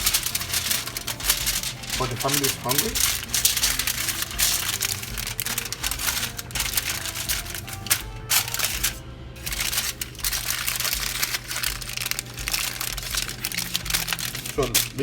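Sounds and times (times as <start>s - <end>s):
wrapping crinkling: 0.0s - 15.0s.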